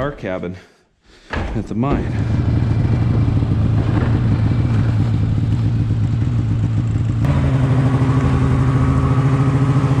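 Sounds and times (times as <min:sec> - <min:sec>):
snowmobile engine running: 0:02.0 - 0:10.0.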